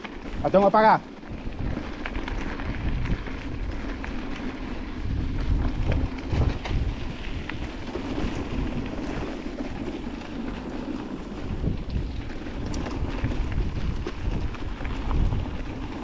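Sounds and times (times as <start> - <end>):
bike tyres rolling on rough trail: 0.0 - 16.0
wind rumbling on microphone: 0.0 - 16.0.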